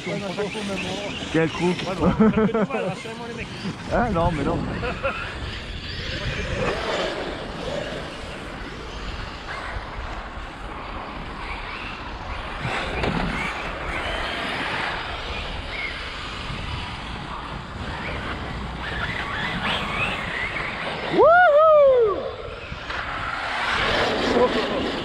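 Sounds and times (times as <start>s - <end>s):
electric toy truck motor whine: 0.0s - 21.2s
wind noise: 0.0s - 25.0s.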